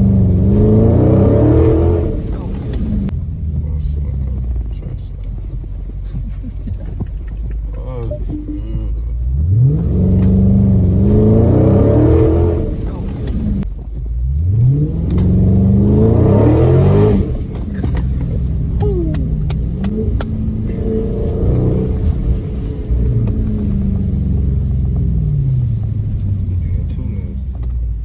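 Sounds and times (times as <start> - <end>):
car engine accelerating hard: 0.0 - 28.0.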